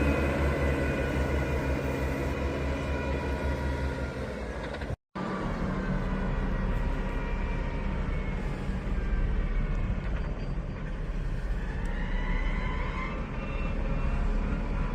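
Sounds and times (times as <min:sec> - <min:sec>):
heavy vehicle engine running: 0:00.0 - 0:14.9.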